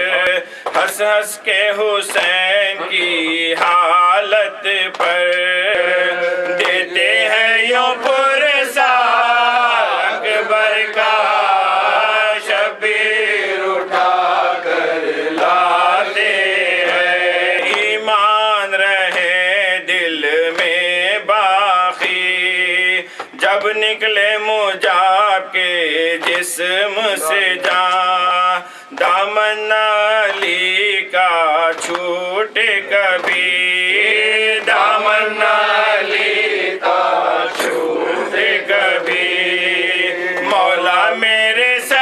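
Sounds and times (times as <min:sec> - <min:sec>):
man chanting through a microphone: 0:00.0 - 0:13.4, 0:15.6 - 0:35.6, 0:38.6 - 0:42.0.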